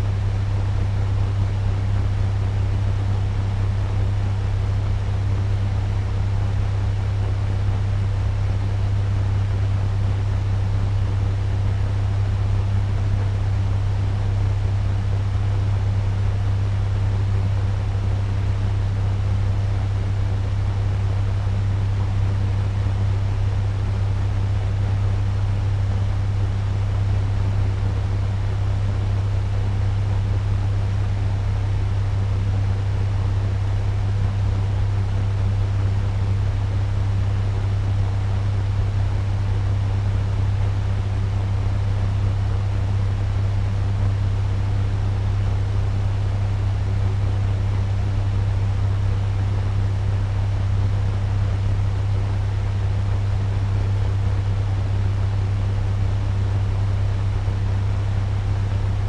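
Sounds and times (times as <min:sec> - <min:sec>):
fan humming with rushing air: 0:00.0 - 0:59.0.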